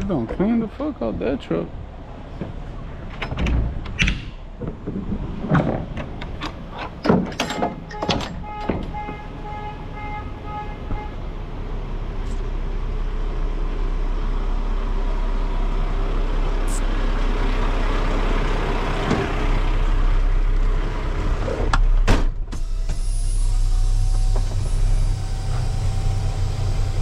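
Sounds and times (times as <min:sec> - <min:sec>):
truck engine and road noise: 0:00.0 - 0:27.0.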